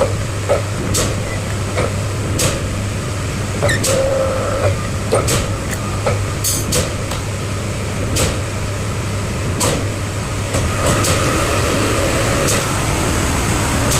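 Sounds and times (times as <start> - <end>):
heavy machine engine humming: 0.0 - 13.9.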